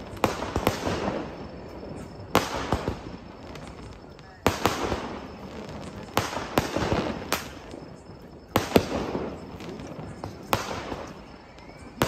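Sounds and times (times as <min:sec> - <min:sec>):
fireworks bangs: 0:00.0 - 0:12.0
fireworks crackle: 0:00.0 - 0:12.0.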